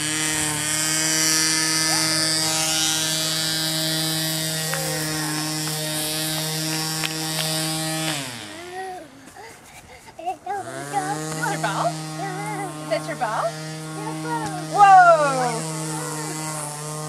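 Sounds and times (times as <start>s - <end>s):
motor running and winding down: 0.0s - 9.2s, 10.2s - 17.0s.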